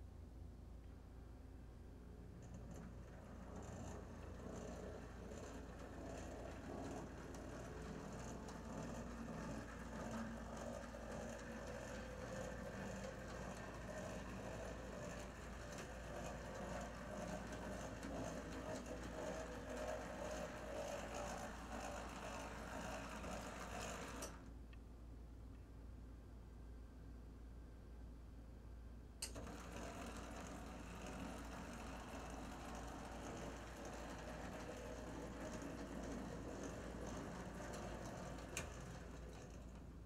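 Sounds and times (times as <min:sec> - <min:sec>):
model train motor whirring: 0:02.6 - 0:24.4, 0:29.2 - 0:39.9.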